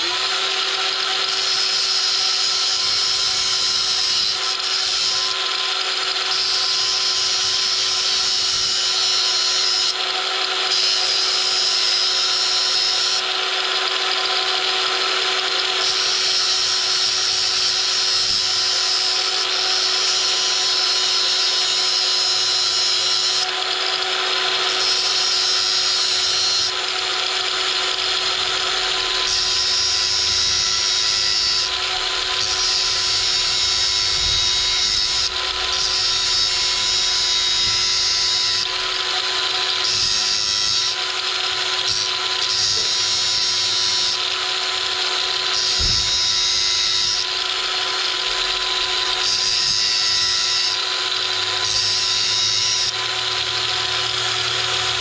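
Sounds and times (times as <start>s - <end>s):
angle grinder grinding metal: 0.0s - 55.0s.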